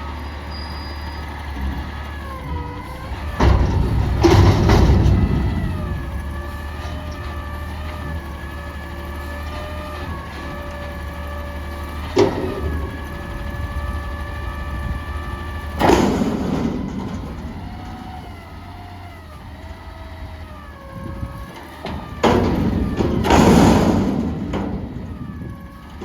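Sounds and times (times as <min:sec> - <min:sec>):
garbage truck whining: 0:00.0 - 0:26.0.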